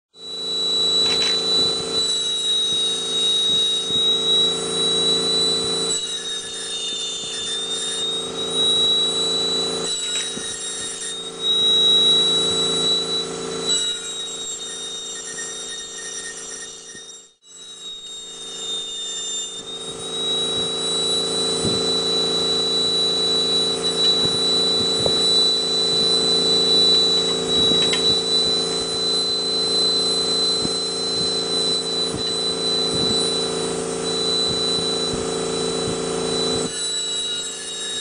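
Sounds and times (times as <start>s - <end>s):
engraving handpiece whine: 0.2s - 38.0s.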